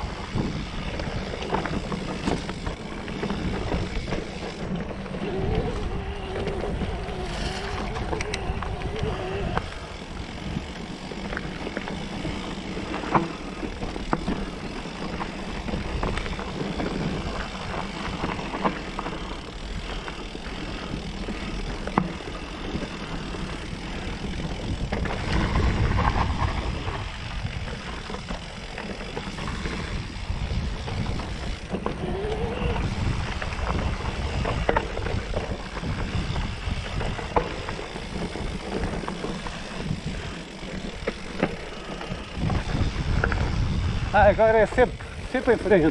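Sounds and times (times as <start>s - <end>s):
bike knocks and rattles: 0.0s - 44.1s
tyre and wind noise: 0.0s - 45.9s.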